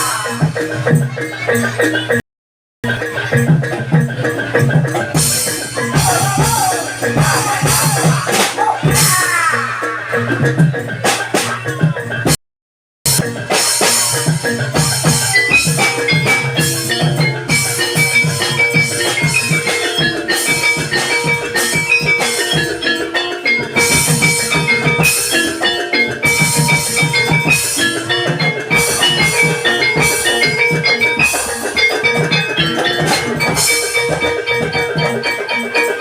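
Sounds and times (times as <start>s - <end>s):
metallophones ringing notes: 2.8s - 12.3s, 13.1s - 36.0s
steady drumming: 2.8s - 12.4s, 13.1s - 36.0s.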